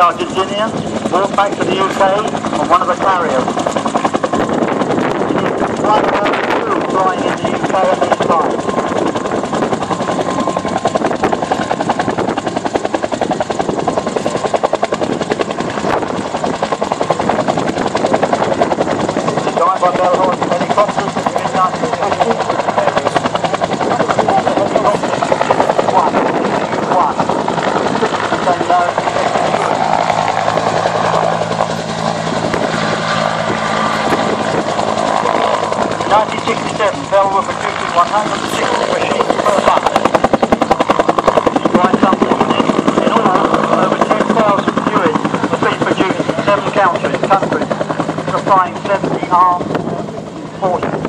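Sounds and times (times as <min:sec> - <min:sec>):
helicopter rotor beating: 0:00.0 - 0:51.0
turbine noise: 0:00.0 - 0:51.0.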